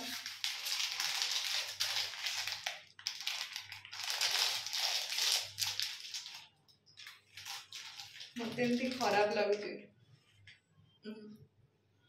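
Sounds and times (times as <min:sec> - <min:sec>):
plastic wrapper crinkling: 0:00.0 - 0:09.7.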